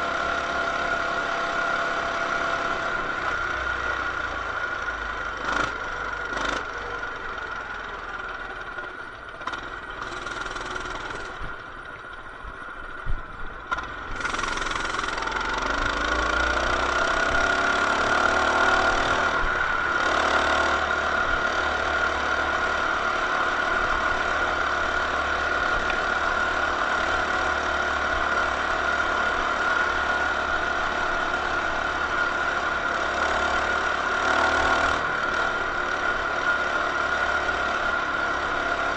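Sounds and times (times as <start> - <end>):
mini bike engine revving: 0.0 - 8.7, 9.3 - 11.7, 13.7 - 38.9.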